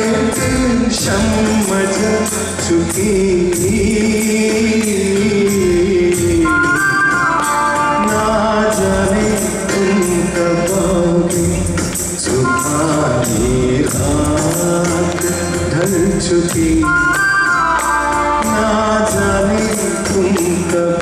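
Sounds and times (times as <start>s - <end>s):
held instrumental notes: 0.0s - 21.0s
man singing into microphone: 0.0s - 21.0s
steady percussion beat: 0.0s - 21.0s.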